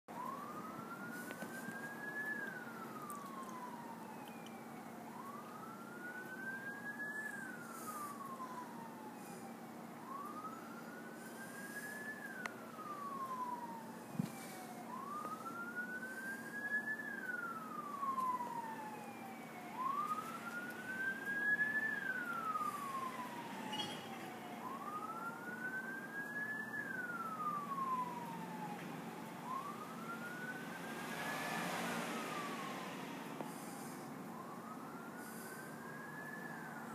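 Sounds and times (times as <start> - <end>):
fire truck siren wailing: 0.1 - 36.9.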